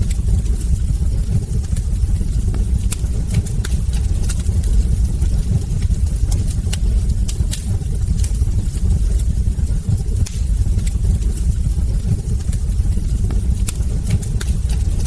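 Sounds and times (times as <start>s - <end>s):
logs crackling and popping: 0.0s - 15.0s
wood fire rumbling: 0.0s - 15.0s.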